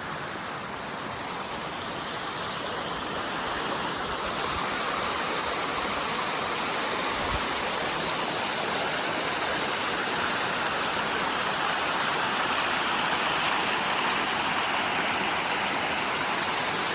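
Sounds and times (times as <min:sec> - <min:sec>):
stream water flowing: 0:00.0 - 0:16.9.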